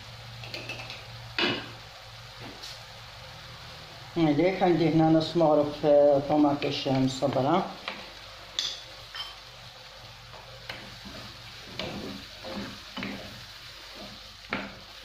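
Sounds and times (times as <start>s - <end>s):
sauce sizzling in frying pan: 0.0s - 15.0s.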